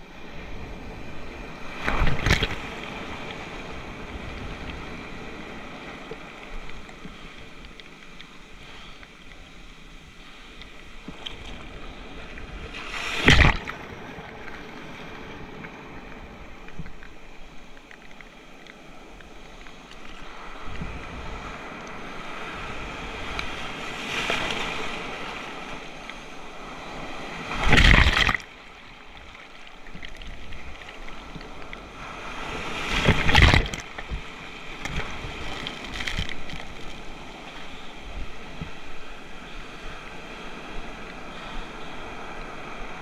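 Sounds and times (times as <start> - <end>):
ocean waves washing: 0.0 - 43.0.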